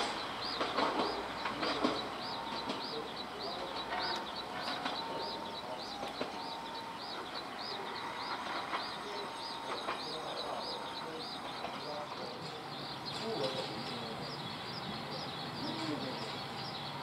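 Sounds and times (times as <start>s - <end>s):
diesel railcar running: 0.0s - 17.0s.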